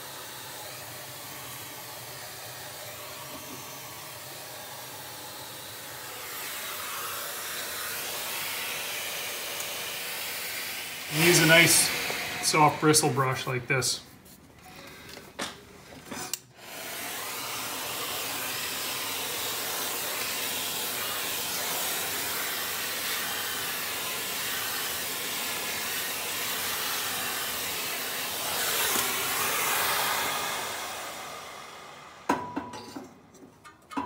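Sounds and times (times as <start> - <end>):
vacuum cleaner running: 0.0 - 14.1, 15.4 - 32.6.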